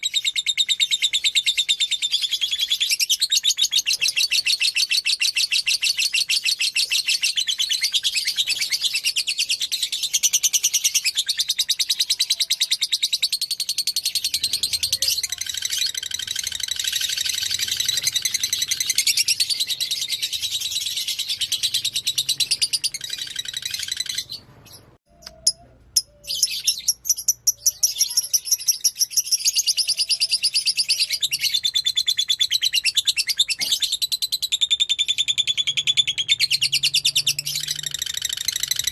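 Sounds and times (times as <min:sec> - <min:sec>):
bird chattering trill: 0:00.0 - 0:24.4, 0:25.1 - 0:38.9.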